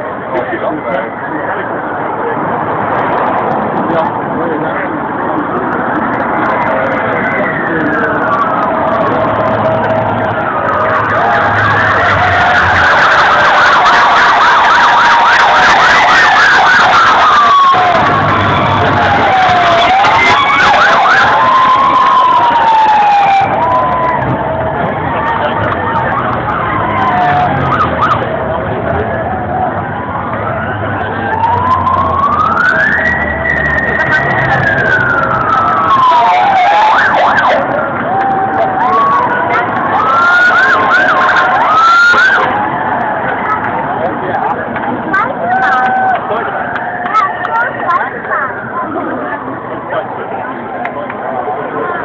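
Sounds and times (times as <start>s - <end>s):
police sirens wailing and yelping: 5.0s - 50.3s
crowd cheering and clapping: 5.8s - 48.6s.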